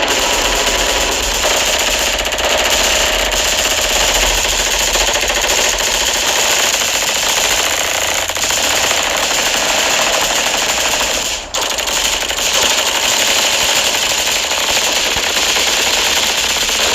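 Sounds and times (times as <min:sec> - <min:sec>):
machine-gun fire: 0:00.0 - 0:16.9.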